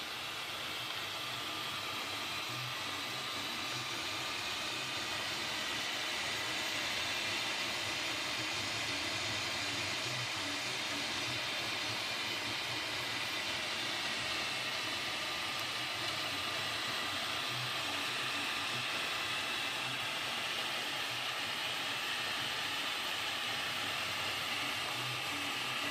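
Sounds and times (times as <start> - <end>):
faint stepper motor tones: 0.0 - 25.9
printer fan hiss: 0.0 - 25.9.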